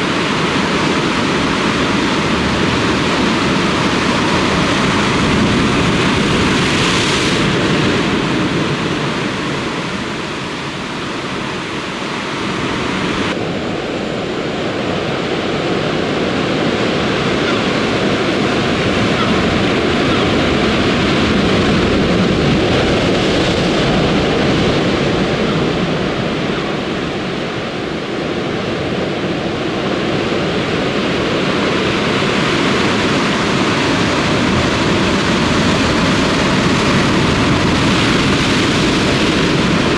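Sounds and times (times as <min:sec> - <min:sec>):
surf breaking on rocky shore: 0:00.1 - 0:13.6, 0:14.6 - 0:39.9.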